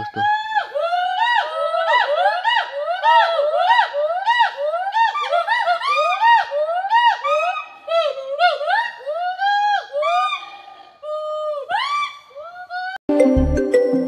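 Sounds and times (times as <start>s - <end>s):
gibbons whooping: 0.0s - 13.0s.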